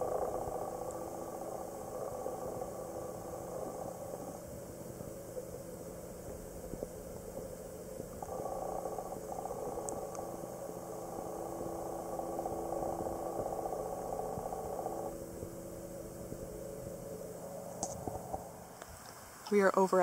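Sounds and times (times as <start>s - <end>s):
muffled underwater rushing: 0.0s - 18.7s.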